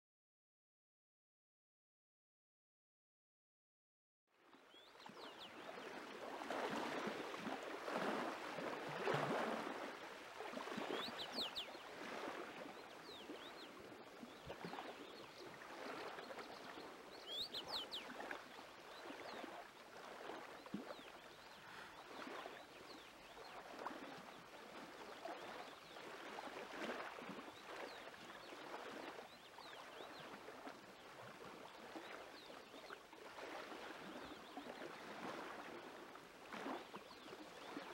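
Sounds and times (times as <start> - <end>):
small waves washing in: 5.1 - 37.9.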